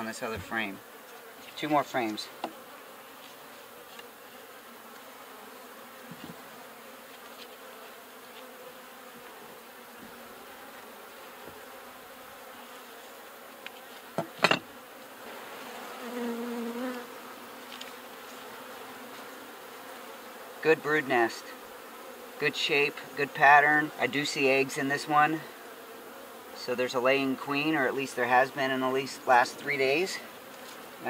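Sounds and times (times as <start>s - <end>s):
bee buzzing close by: 0.0s - 31.0s
honeybees humming: 0.0s - 31.0s.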